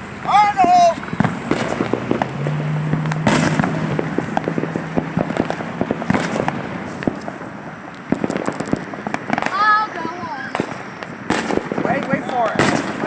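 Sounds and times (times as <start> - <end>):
firecrackers popping: 0.0 - 13.0.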